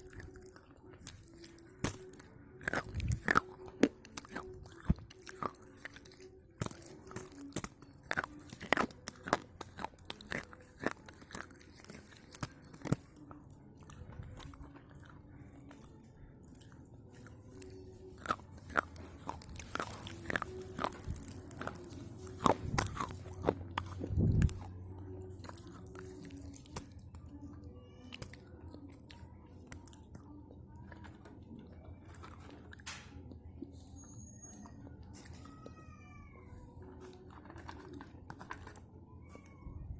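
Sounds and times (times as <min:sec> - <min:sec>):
crunching of slate pencils: 0:00.0 - 0:39.9.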